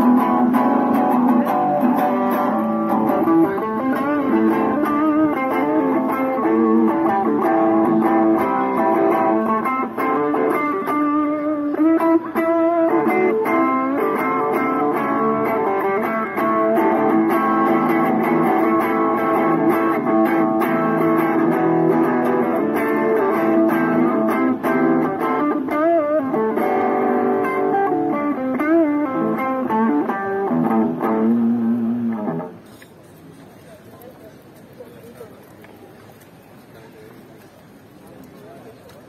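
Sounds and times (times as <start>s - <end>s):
guitar melody: 0.0s - 32.8s.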